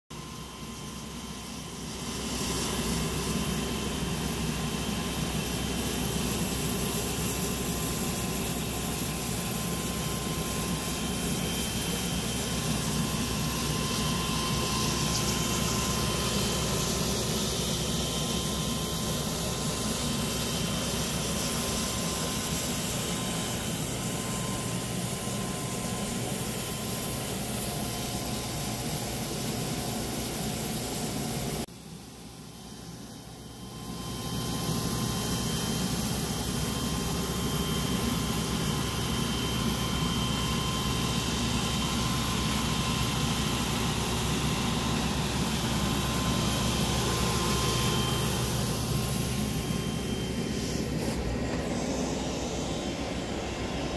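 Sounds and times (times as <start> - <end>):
carpet extractor vacuum hiss and whine: 0.1 - 53.9.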